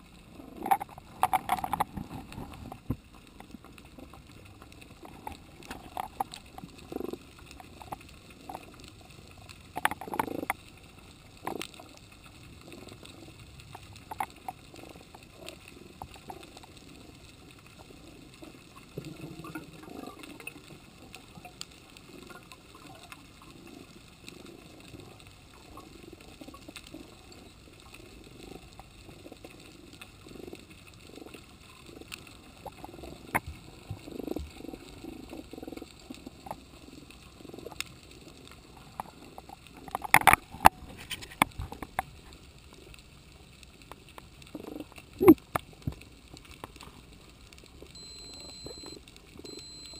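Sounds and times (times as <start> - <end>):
muffled underwater wash: 0.0 - 49.9.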